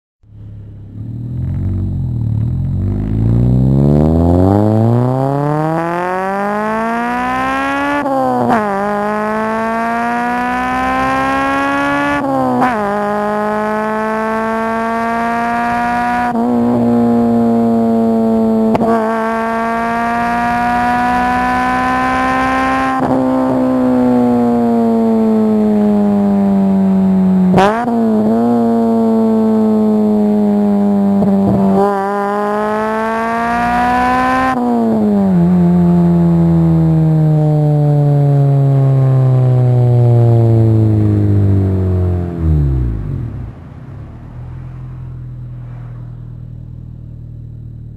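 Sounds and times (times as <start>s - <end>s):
car exhaust accelerating: 0.2s - 47.9s.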